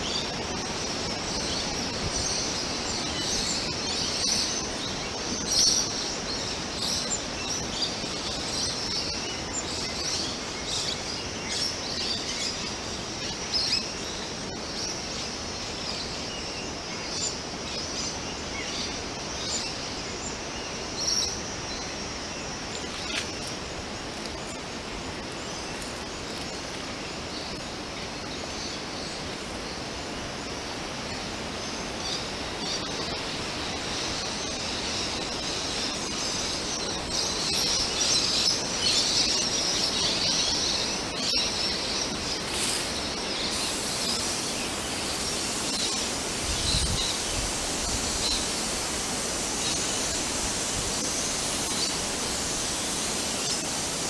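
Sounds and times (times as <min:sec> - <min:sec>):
outdoor background hiss: 0:00.0 - 0:54.0
small birds chirping: 0:00.0 - 0:54.0.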